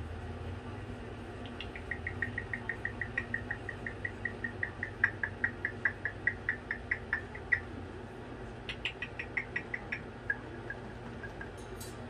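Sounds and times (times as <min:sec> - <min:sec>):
cockatoo ticking: 0:01.4 - 0:07.7, 0:08.6 - 0:12.0.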